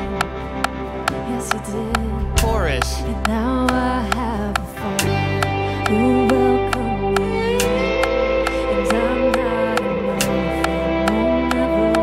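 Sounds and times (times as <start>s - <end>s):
light percussive tick: 0.0s - 12.0s.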